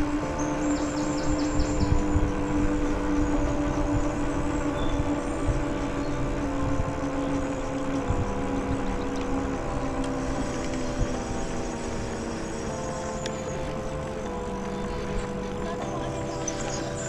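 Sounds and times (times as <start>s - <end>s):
humming tones: 0.0s - 17.0s
wind buffeting microphone: 0.0s - 17.0s.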